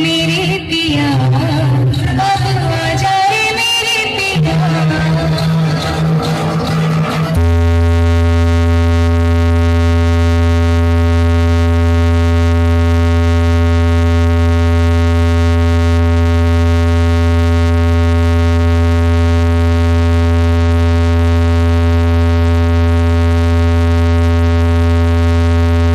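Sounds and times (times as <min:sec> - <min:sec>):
loud steady bass test tone: 0:00.0 - 0:25.9.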